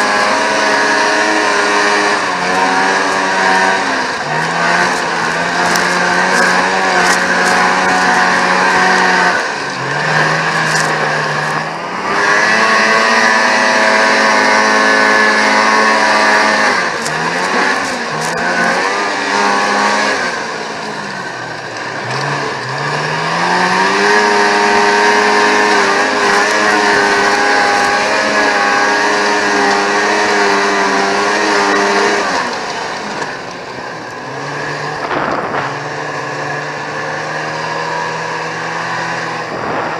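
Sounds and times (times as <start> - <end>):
snowmobile engines revving: 0.0 - 39.9.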